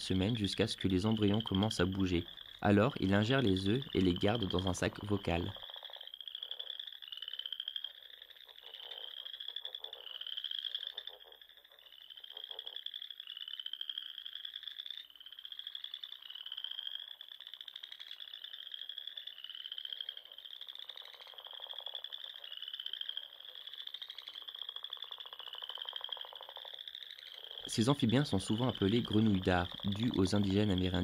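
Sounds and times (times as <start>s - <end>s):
frog whistle-like calls: 0.0s - 31.0s.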